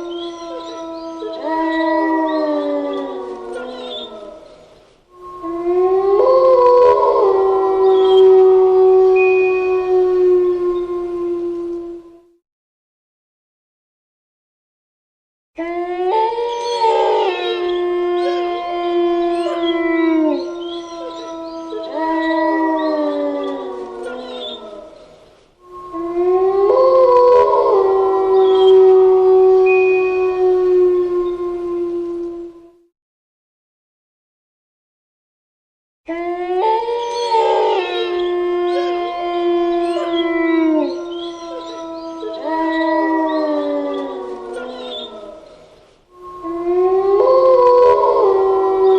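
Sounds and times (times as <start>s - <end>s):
wolves howling: 0.0s - 12.4s, 15.6s - 32.9s, 36.1s - 48.9s.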